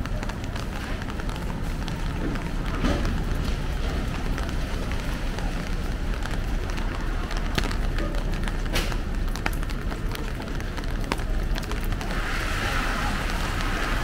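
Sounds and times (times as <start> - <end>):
raindrops ticking close by: 0.0 - 14.0
steady rain falling: 0.0 - 14.0.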